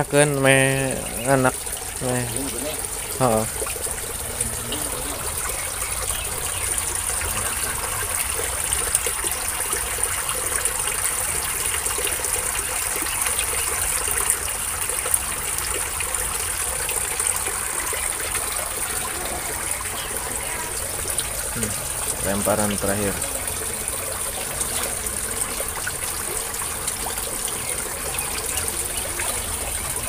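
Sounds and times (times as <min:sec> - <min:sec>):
water pouring into pond: 0:00.0 - 0:30.0.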